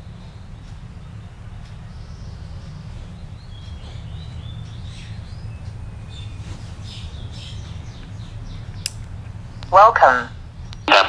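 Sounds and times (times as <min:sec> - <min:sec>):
birds chirping: 0:00.0 - 0:11.0
low background rumble: 0:00.0 - 0:11.0.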